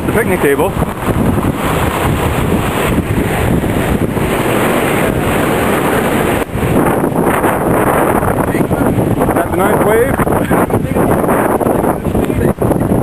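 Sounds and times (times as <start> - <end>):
surf rushing and churning: 0.0 - 13.0
wind buffeting microphone: 0.0 - 13.0.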